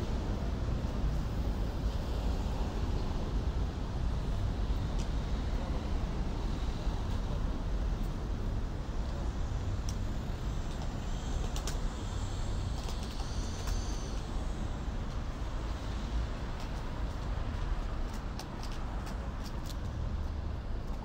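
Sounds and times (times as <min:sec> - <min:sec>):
cars and buses rumbling past: 0:00.0 - 0:21.0.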